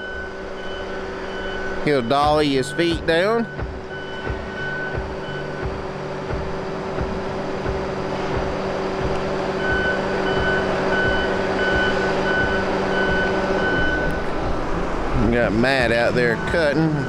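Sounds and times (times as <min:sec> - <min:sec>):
electronic warning beeper: 0:00.0 - 0:06.4, 0:09.5 - 0:17.0
log loader diesel engine running: 0:00.0 - 0:17.0.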